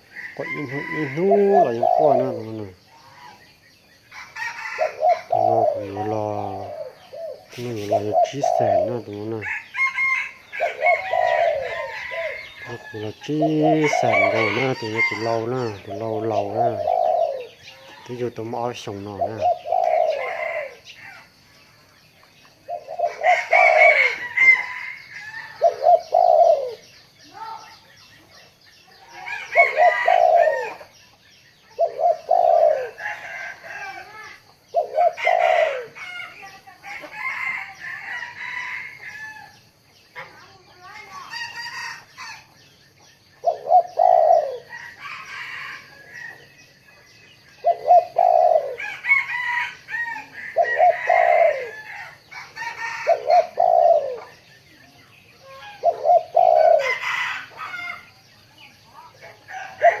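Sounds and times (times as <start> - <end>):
dove cooing: 0.0 - 3.4, 4.2 - 21.3, 22.5 - 27.8, 28.4 - 31.0, 31.6 - 39.4, 43.4 - 46.4, 47.4 - 54.6, 55.4 - 58.1, 59.0 - 60.0.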